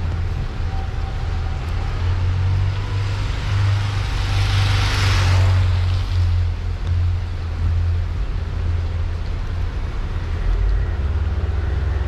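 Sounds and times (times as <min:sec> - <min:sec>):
car engine and road rumble: 0:00.0 - 0:12.0
tyres hissing on wet road: 0:00.0 - 0:12.0.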